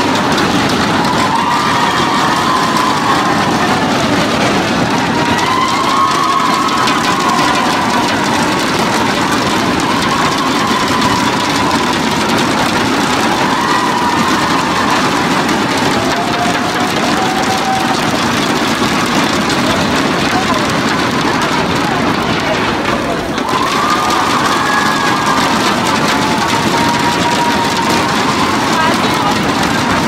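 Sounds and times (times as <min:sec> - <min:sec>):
crowd cheering: 0:00.0 - 0:30.0
thundersticks clattering: 0:00.0 - 0:30.0.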